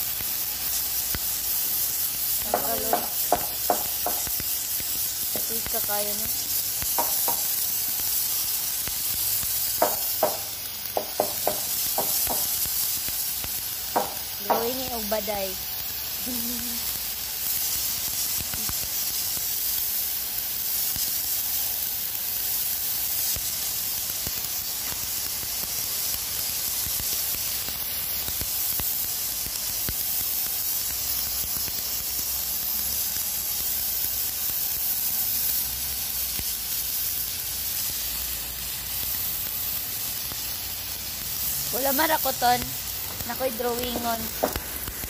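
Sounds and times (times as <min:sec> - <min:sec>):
pressure washer jet hissing: 0:00.0 - 0:45.0.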